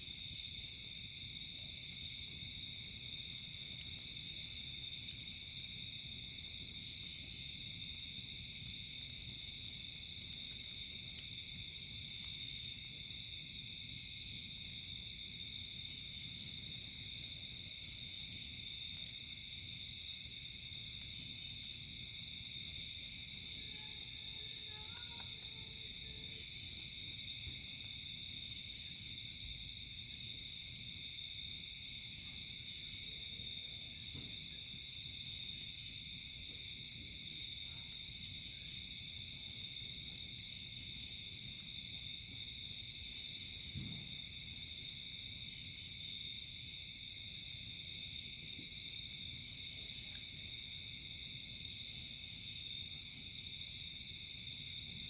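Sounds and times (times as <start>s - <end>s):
night insects chorus: 0.0s - 55.0s.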